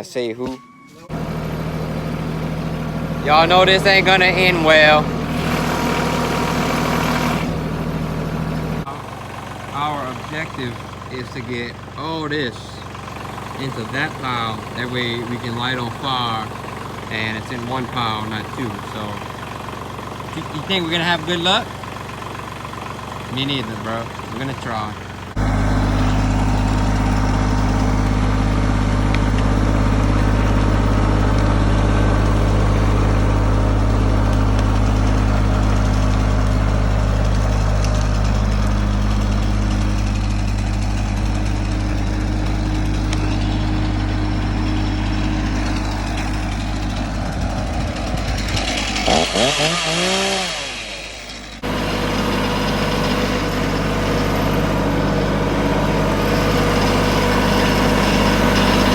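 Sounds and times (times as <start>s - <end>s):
engine running steadily: 1.0s - 58.9s.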